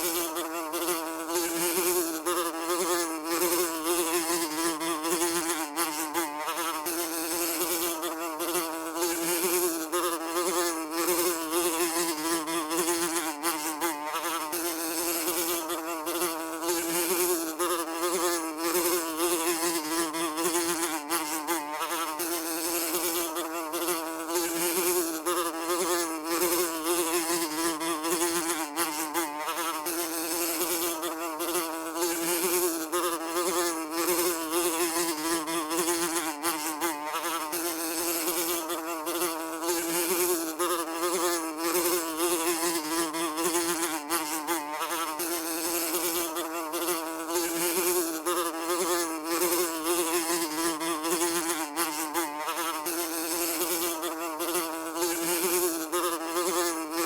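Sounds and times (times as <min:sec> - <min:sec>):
fly buzzing: 0:00.0 - 0:57.0.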